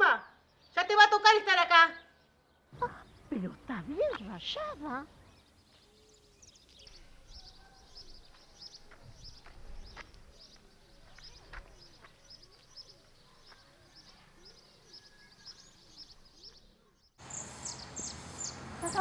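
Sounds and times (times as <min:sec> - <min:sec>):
outdoor background noise: 0:00.0 - 0:19.0
small birds chirping: 0:00.0 - 0:19.0.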